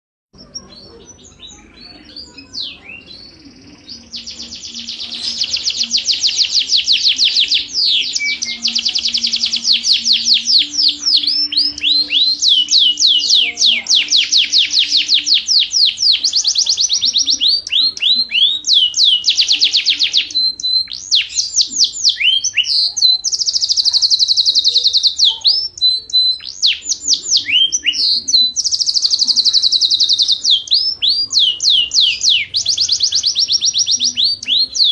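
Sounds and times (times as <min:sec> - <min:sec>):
canary singing trills: 0:00.3 - 0:34.9.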